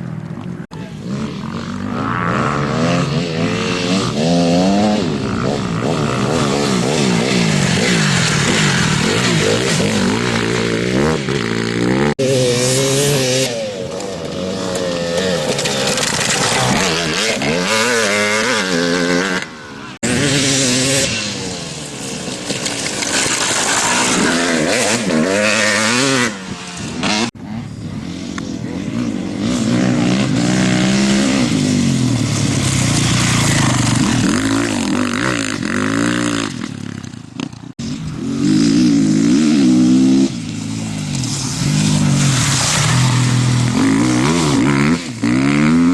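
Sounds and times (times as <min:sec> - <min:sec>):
racing motorcycle engines revving: 0:00.0 - 0:45.9.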